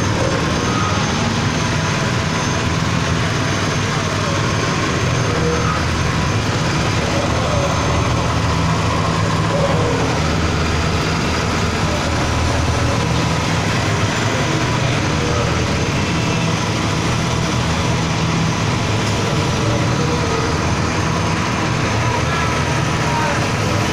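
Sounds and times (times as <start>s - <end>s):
small petrol engine running: 0.0s - 23.9s.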